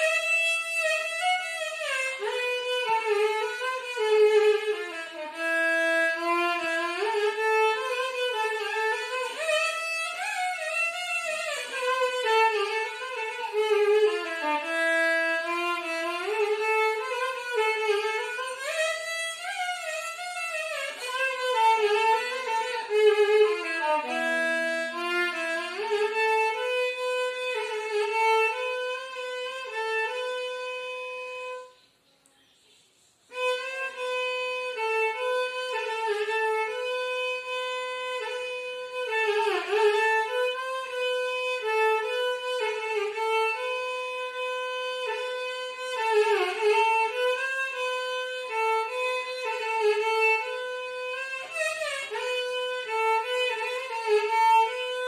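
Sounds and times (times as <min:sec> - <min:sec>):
solo violin melody: 0:00.0 - 0:31.9, 0:33.2 - 0:55.0.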